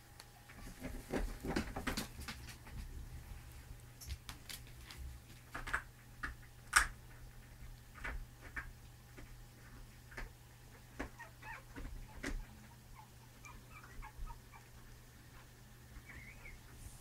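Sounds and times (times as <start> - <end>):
low steady hum: 0.0 - 17.0
puppies snuffling and clicking: 0.1 - 16.8.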